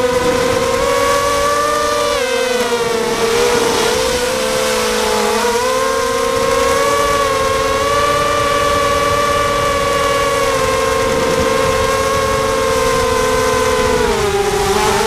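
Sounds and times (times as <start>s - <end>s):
quadcopter propellers whining: 0.0s - 15.0s
wind rumbling on microphone: 0.0s - 15.0s.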